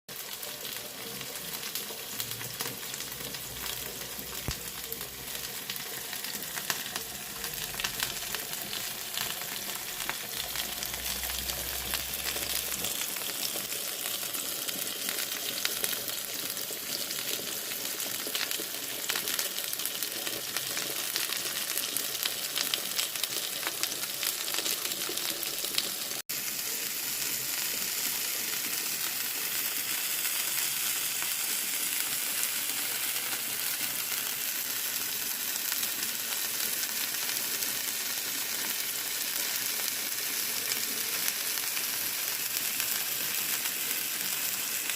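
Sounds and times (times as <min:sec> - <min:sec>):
steak sizzling in a frying pan: 0:00.1 - 0:44.9.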